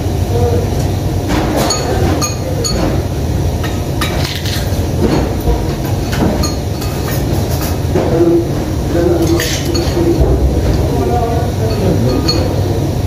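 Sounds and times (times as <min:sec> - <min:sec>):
low room rumble: 0:00.0 - 0:13.0
utensils clinking against bowls: 0:00.7 - 0:13.0.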